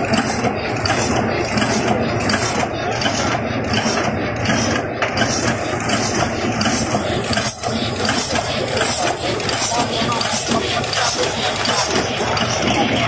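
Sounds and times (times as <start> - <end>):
machine mechanical clatter: 0.0 - 13.0.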